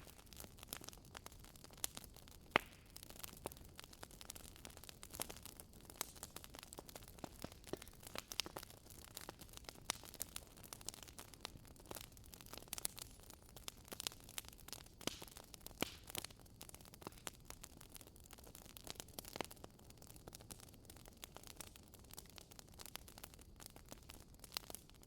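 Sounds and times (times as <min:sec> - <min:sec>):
fireplace fire snapping and popping: 0:00.0 - 0:25.0.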